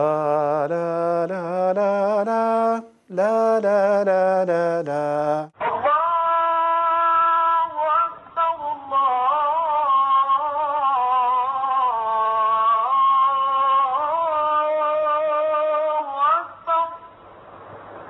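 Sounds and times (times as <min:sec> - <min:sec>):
man singing call to prayer: 0:00.0 - 0:17.1.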